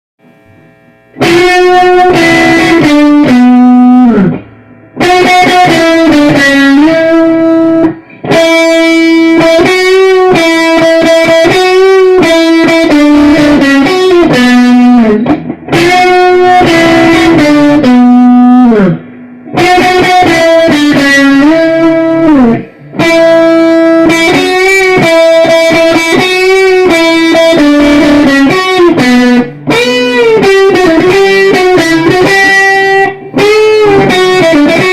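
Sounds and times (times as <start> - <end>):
electric guitar lead melody: 0.2 - 34.9.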